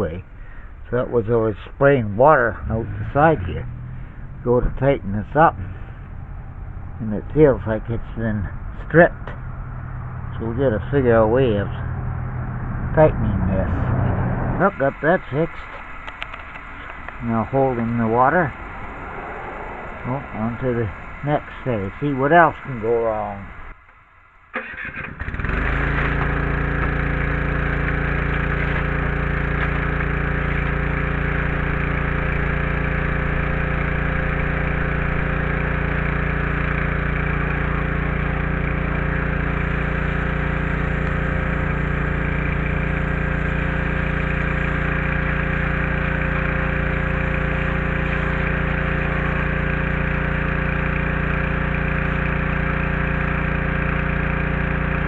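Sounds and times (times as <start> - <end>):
small gasoline engine running: 0.0 - 55.0.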